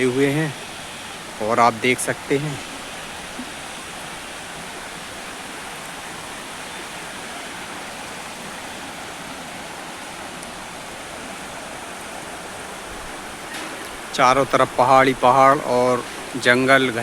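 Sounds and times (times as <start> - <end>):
waterfall splashing onto rocks: 0.0 - 17.0.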